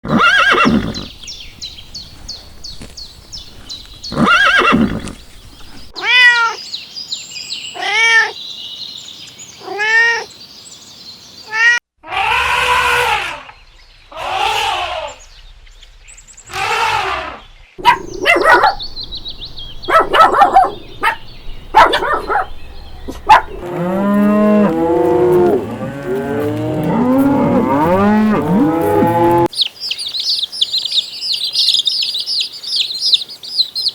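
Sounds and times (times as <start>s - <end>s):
farm animals calling: 0.0s - 6.6s, 11.5s - 15.3s, 16.5s - 33.9s.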